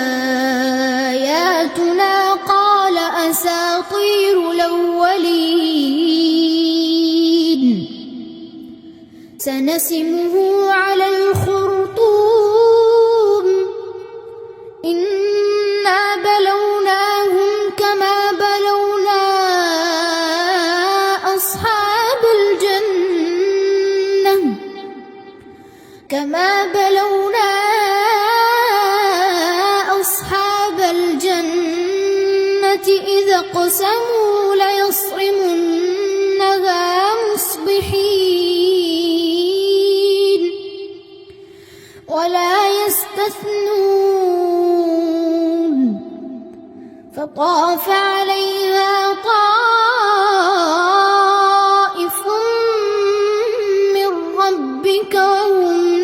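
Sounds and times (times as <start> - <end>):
boy reciting melodically: 0.0 - 25.4, 26.0 - 41.3, 42.0 - 56.0.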